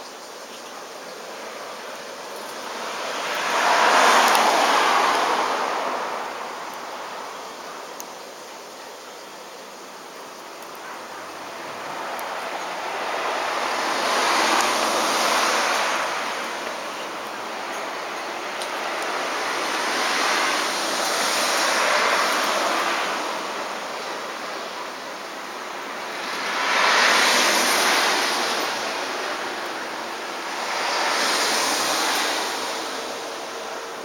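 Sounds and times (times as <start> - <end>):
cicadas singing: 0.0 - 34.0.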